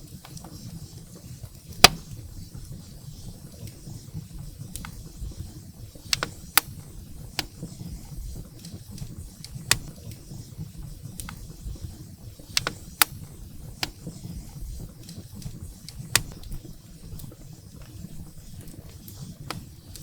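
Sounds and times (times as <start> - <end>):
firewood crackling and popping: 0.0 - 20.0
flames rumbling: 0.0 - 20.0.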